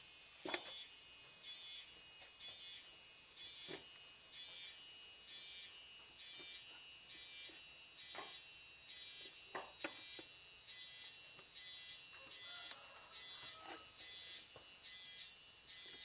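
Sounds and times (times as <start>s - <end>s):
insects calling in buzzy pulses: 0.0s - 16.0s
steady high whine: 0.0s - 16.0s.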